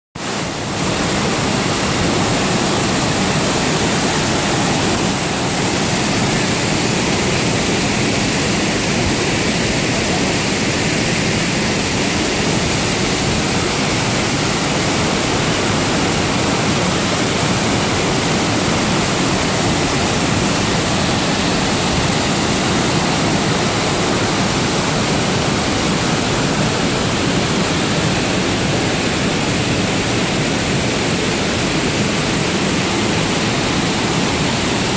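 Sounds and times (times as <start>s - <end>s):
waterfall rushing into pool: 0.2s - 34.9s.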